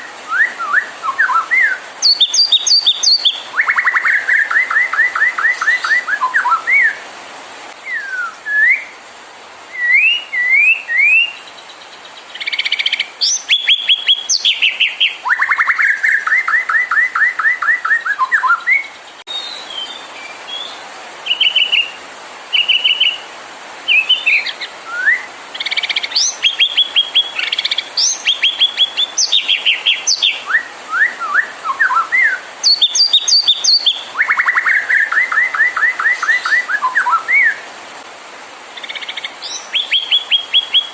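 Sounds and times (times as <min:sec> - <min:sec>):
bird singing whistled phrases: 0:00.0 - 0:07.0, 0:07.8 - 0:09.0, 0:09.7 - 0:11.5, 0:12.4 - 0:20.7, 0:23.9 - 0:37.6, 0:39.0 - 0:40.9.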